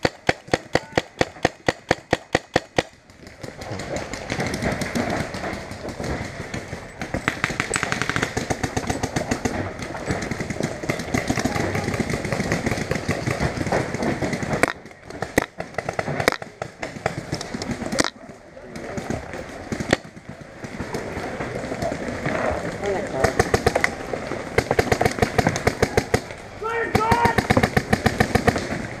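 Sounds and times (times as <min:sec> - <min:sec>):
paintball markers firing: 0:00.0 - 0:21.1, 0:23.1 - 0:26.3, 0:27.0 - 0:28.8.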